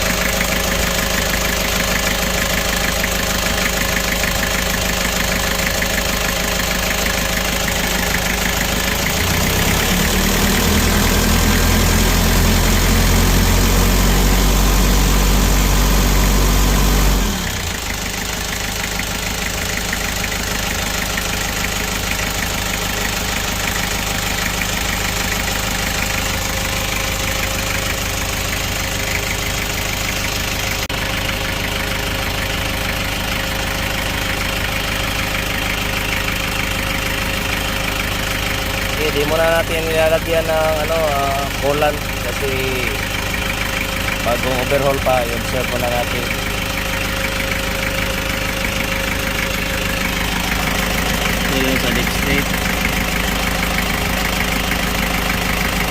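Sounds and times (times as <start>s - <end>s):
diesel engine idling and revving: 0.0s - 55.9s.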